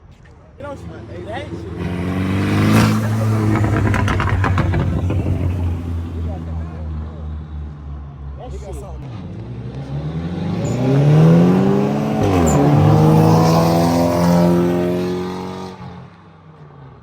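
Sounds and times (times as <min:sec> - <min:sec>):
car engines accelerating hard: 0:00.5 - 0:16.9.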